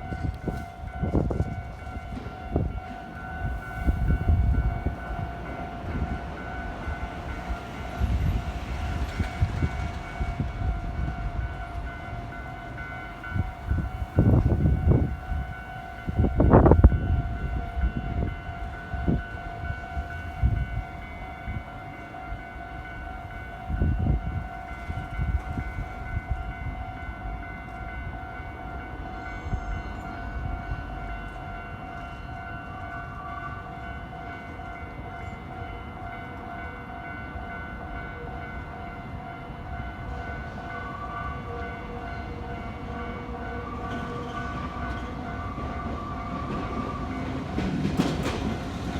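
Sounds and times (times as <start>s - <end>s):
train approaching: 0.0s - 48.9s.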